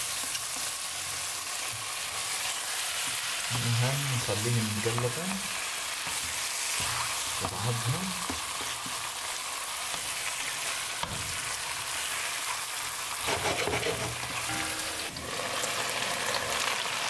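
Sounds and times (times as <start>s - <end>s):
meat and onions sizzling in oil: 0.0s - 17.0s.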